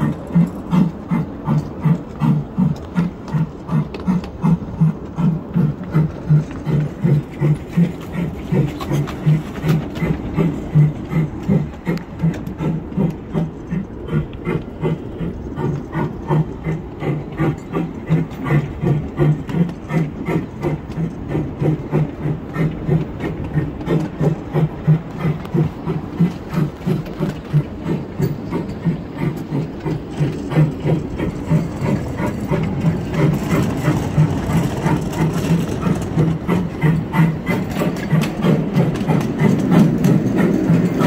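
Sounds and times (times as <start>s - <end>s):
miniature steam locomotive running: 0.0s - 41.0s.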